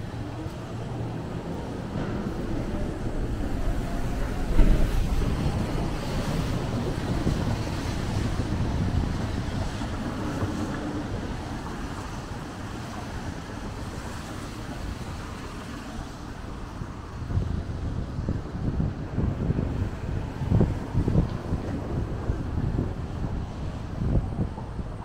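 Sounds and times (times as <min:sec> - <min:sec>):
traffic tyre hiss on wet road: 0:00.0 - 0:25.0
wind rumble on microphone: 0:00.0 - 0:25.0.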